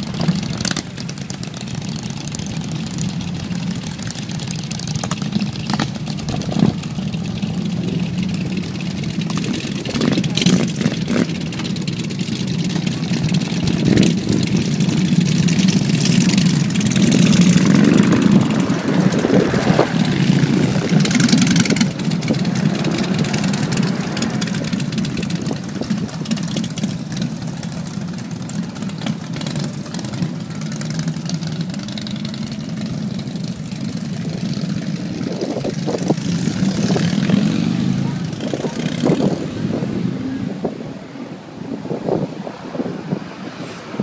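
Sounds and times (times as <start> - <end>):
motorcycle engines rumbling: 0.0 - 44.0.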